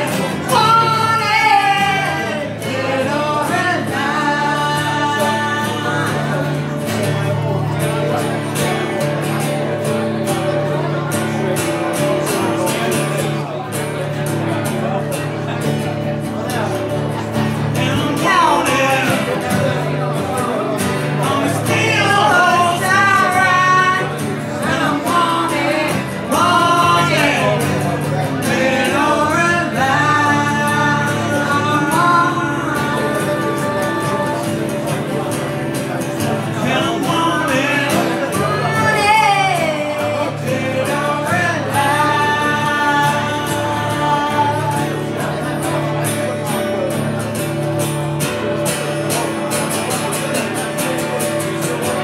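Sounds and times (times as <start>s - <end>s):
man singing into a microphone: 0.0s - 13.7s, 14.4s - 52.0s
acoustic guitar: 0.0s - 52.0s.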